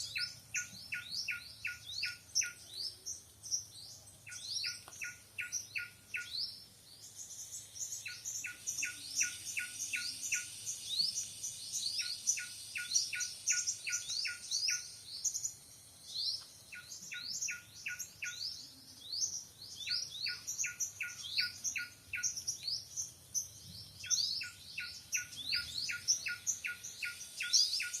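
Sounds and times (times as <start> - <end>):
birds chirping and singing: 0.0 - 28.0
steady high hiss: 0.0 - 28.0.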